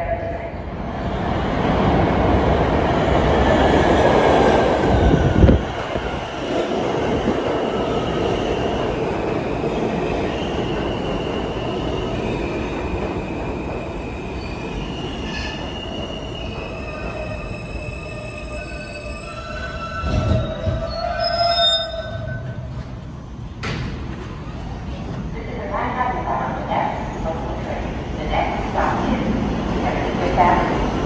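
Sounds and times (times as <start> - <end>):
subway train arriving rumble: 0.0 - 31.0.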